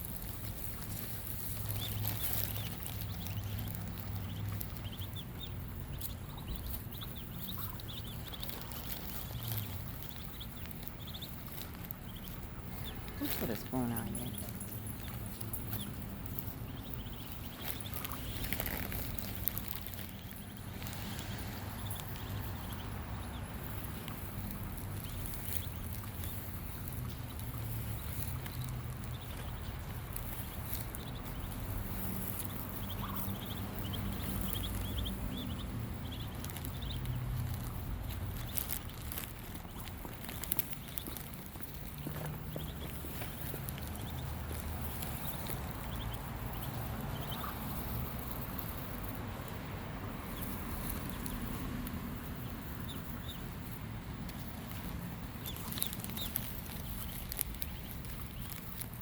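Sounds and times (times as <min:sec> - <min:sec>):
ducklings peeping: 0:00.0 - 0:59.0
steady low rumble: 0:00.0 - 0:59.0.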